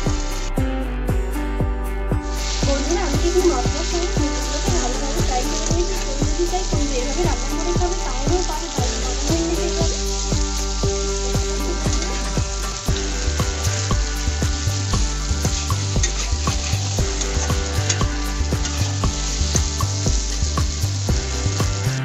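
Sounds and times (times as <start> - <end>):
vegetables sizzling in pan: 0.0 - 0.5, 2.2 - 22.0.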